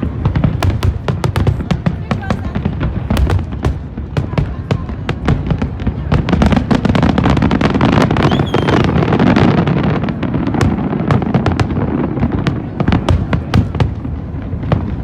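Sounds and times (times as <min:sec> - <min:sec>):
fireworks cracks and pops: 0:00.0 - 0:15.0.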